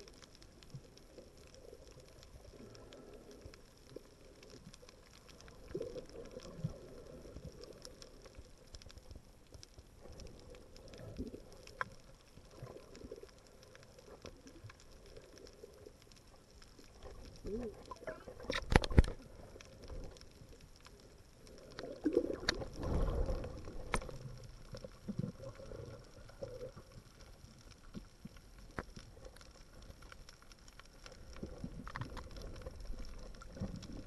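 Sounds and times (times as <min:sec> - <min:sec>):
muffled underwater rumble: 0:00.0 - 0:34.0
sharp clicks and pops: 0:00.0 - 0:34.0.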